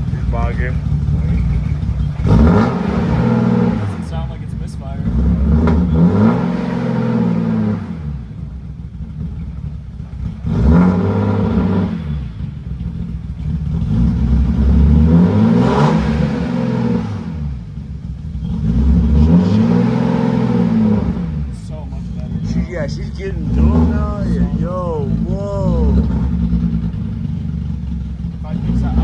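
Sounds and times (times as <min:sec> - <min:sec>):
car engine revving: 0:00.0 - 0:29.0
loud exhaust rumble: 0:00.0 - 0:29.0.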